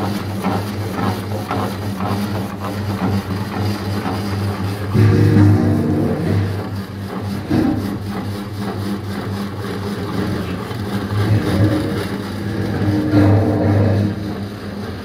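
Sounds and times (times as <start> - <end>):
cabbage chopper motor hum: 0.0 - 15.0
cutter disc shredding cabbage: 0.0 - 15.0.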